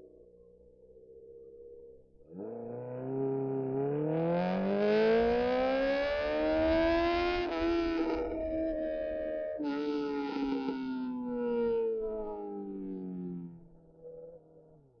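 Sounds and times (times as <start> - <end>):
motorcycle engine accelerating: 2.3 - 15.0.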